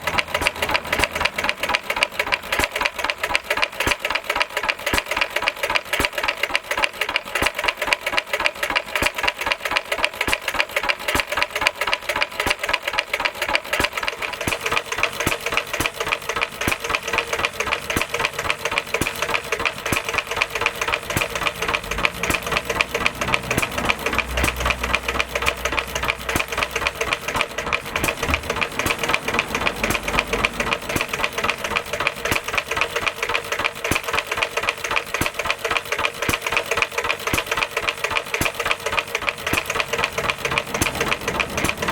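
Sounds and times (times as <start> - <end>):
stationary engine running: 0.0 - 41.9.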